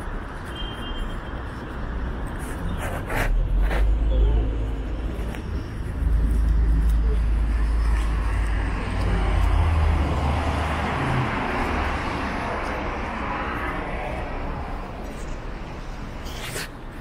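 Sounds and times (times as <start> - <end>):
road traffic rumble: 0.0 - 17.0
voices of passers-by: 0.0 - 17.0.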